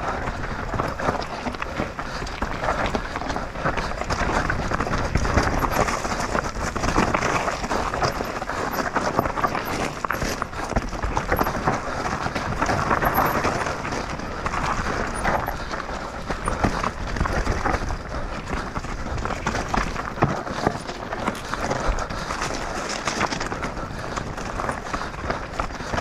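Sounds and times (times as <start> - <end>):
bike clattering over stones: 0.0 - 26.0.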